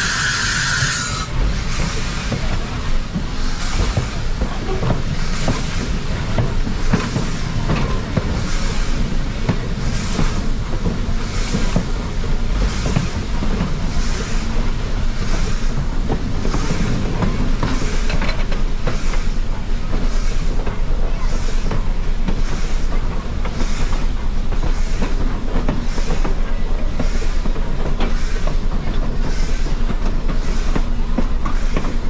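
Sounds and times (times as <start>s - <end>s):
steam hiss: 0.0s - 32.0s
steam locomotive chuffing: 0.0s - 32.0s
train rumble: 0.0s - 32.0s.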